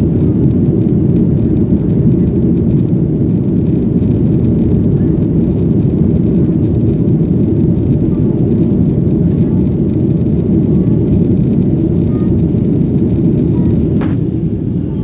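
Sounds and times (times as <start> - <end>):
jet cabin engine roar: 0.0 - 15.0.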